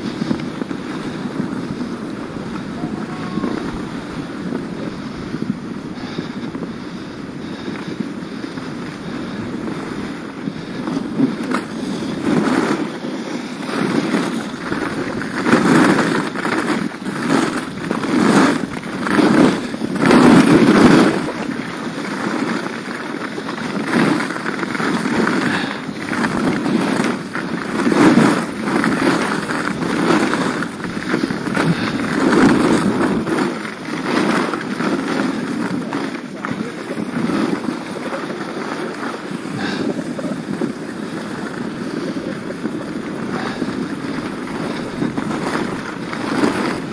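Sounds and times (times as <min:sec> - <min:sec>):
skis scraping on snow: 0:00.0 - 0:46.9.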